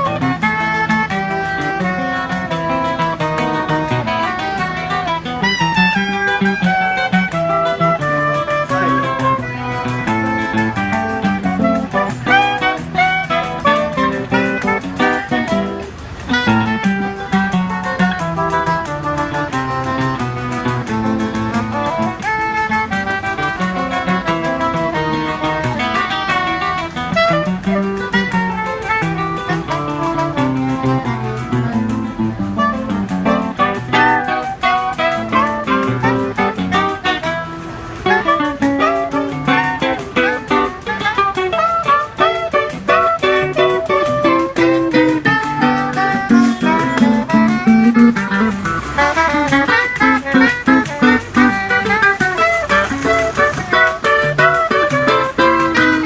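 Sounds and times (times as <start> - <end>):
acoustic guitar: 0.0 - 56.0
clarinet melody: 0.0 - 56.0
frame drum rhythm: 0.0 - 56.0.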